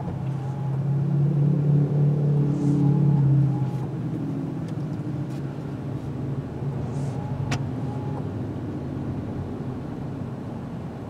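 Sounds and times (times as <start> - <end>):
car engine hum: 0.0 - 11.0
tyre and road noise: 0.0 - 11.0.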